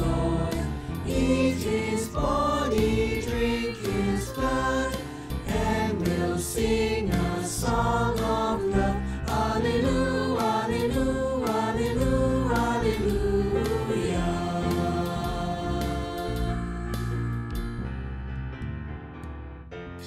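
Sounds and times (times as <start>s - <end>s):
church choir singing: 0.0s - 17.1s
instrumental accompaniment: 0.0s - 20.0s.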